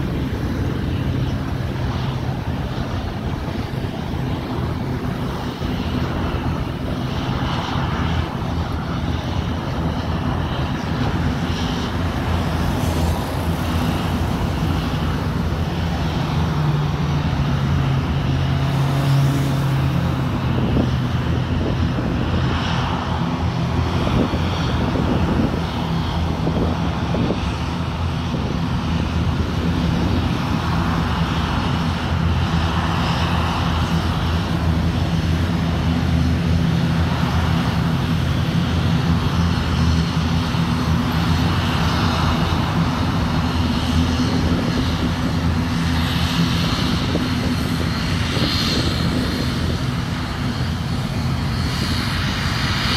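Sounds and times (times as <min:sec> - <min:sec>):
turboprop engines droning: 0:00.0 - 0:52.9.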